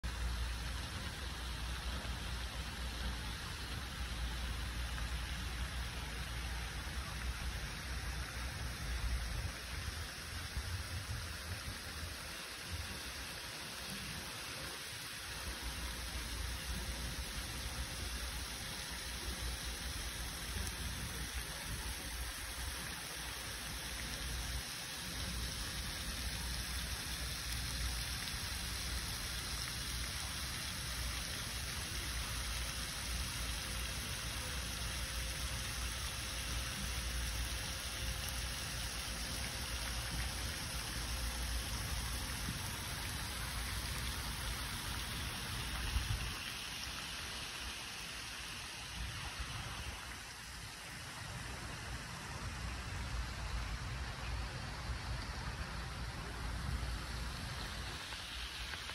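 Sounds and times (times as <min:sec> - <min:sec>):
fountain spray hissing: 0:00.0 - 0:58.9.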